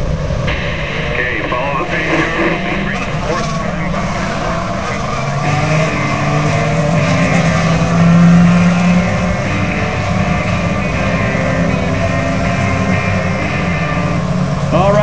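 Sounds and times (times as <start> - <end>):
race car engines at low revs: 0.0 - 15.0.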